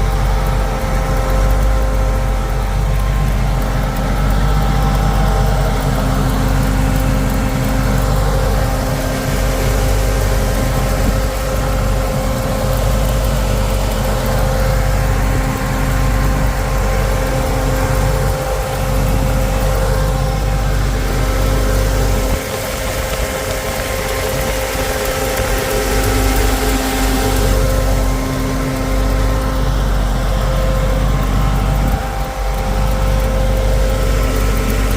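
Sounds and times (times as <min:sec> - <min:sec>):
car engine rumbling: 0:00.0 - 0:34.9.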